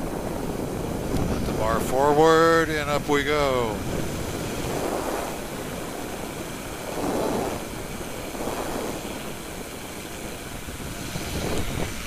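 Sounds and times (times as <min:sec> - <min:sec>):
light aircraft engine and propeller: 0:00.0 - 0:12.0
wind rushing over microphone: 0:00.0 - 0:12.0.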